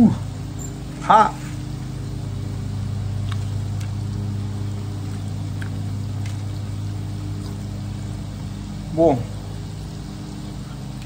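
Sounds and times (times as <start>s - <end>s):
burner humming: 0.0s - 11.0s.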